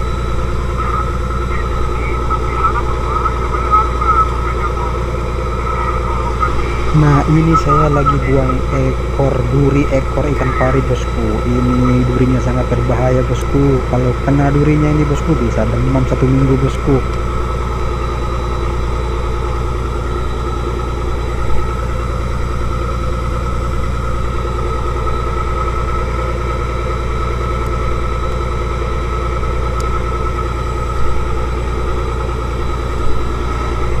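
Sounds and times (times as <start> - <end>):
boat engine running steadily: 0.0 - 34.0.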